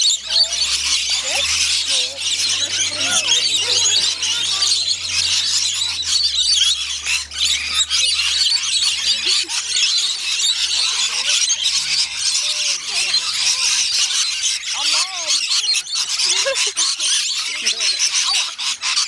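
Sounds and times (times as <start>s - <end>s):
lorikeets screeching and chattering: 0.0s - 19.0s.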